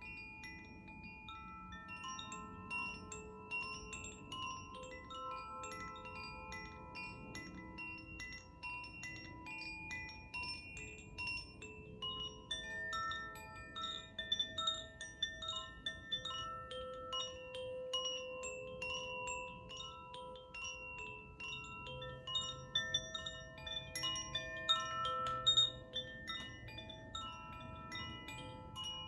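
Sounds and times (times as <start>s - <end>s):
wind chimes ringing: 0.0s - 29.0s.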